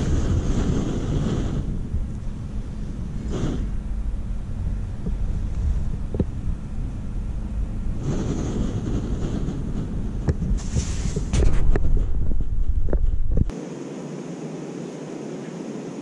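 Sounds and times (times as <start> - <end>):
wind on microphone: 0.0 - 13.6
gas stove burner hissing: 0.0 - 16.0.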